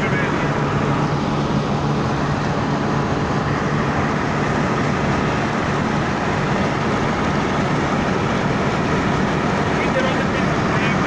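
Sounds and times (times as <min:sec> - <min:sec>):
road noise inside a vehicle: 0:00.0 - 0:11.0.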